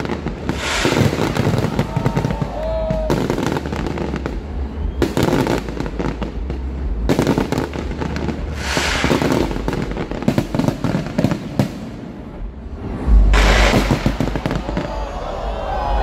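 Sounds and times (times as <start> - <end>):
fireworks bangs and pops: 0.0 - 15.2
fireworks dense crackling: 0.0 - 16.0.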